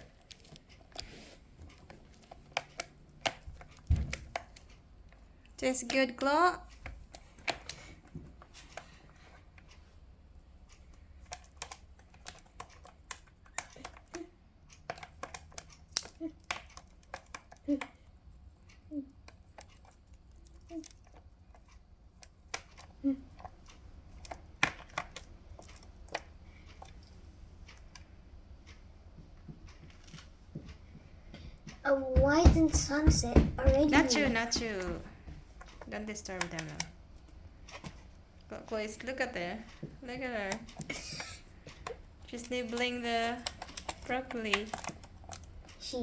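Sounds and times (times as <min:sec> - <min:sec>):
birds pecking with beak clicks: 0:00.0 - 0:09.7, 0:10.7 - 0:28.2, 0:33.7 - 0:46.0.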